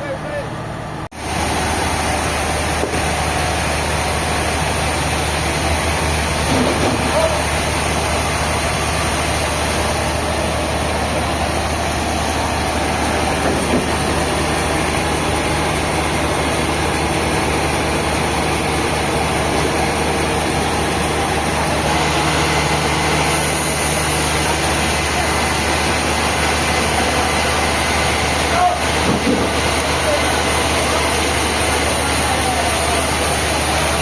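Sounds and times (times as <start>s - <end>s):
sawmill machinery noise: 0.0s - 34.0s.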